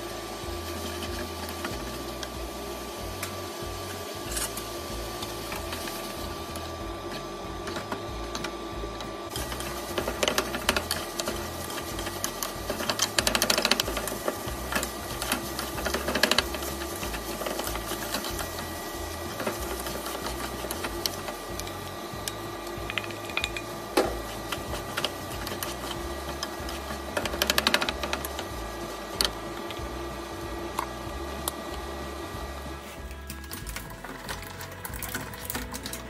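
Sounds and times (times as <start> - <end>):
steady hum: 0.0 - 36.0.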